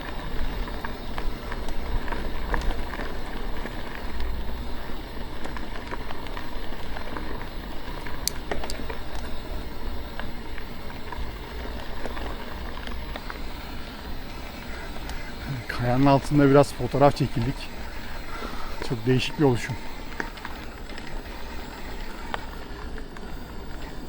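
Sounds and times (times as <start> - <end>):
bike clicks and rattles: 0.0 - 24.0
tyre and trail noise: 0.0 - 24.0.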